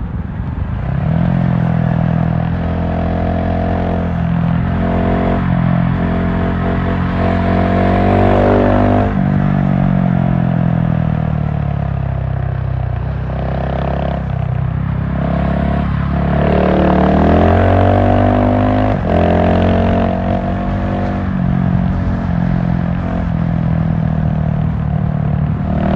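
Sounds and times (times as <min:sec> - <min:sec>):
motorcycle engine revving: 0:00.9 - 0:25.9.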